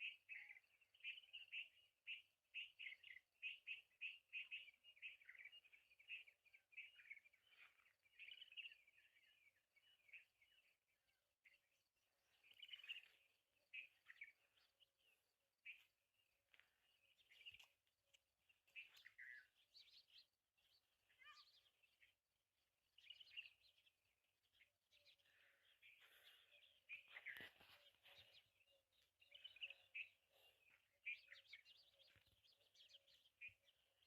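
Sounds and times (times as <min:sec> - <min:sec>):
faint bird chirps: 0:00.0 - 0:34.0.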